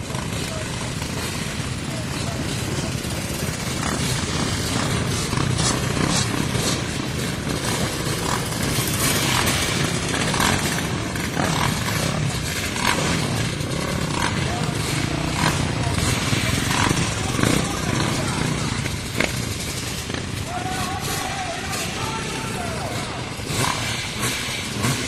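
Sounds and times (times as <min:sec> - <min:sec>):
quad bike engines revving: 0:00.0 - 0:25.0.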